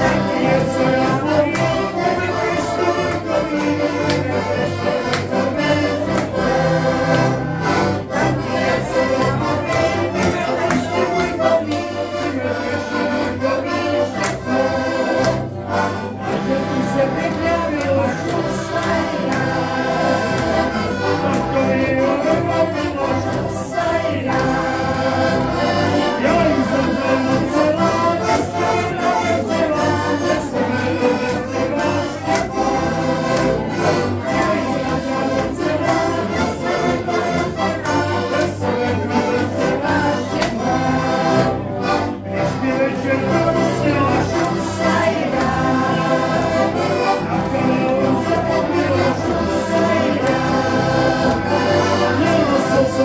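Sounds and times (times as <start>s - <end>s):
accordions playing folk tune: 0.0s - 53.0s
group of voices singing: 0.0s - 53.0s
hands clapping: 0.0s - 53.0s.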